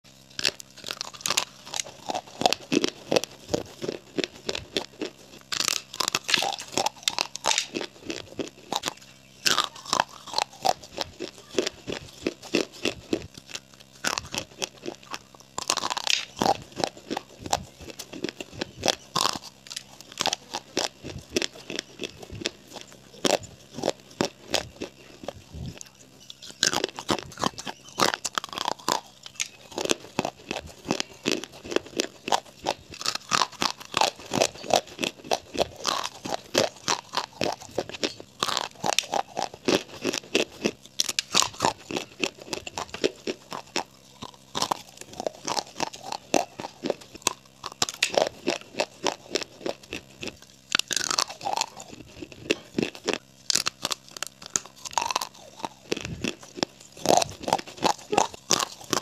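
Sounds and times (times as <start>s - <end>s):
clay pipes crunched by chewing: 0.3s - 59.0s.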